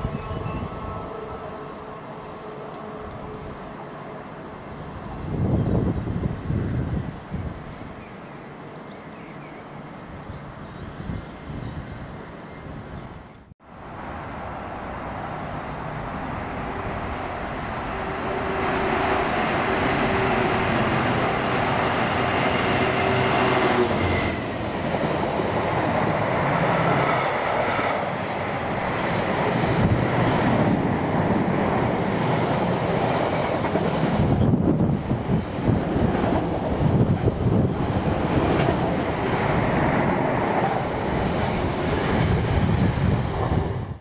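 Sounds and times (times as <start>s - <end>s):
diesel locomotive engine droning: 0.0s - 5.3s, 13.7s - 43.9s.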